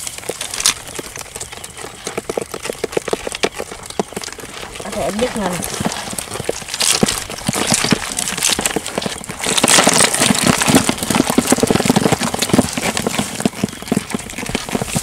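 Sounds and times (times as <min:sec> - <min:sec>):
clatter of knocks and rattles: 0:01.8 - 0:15.0.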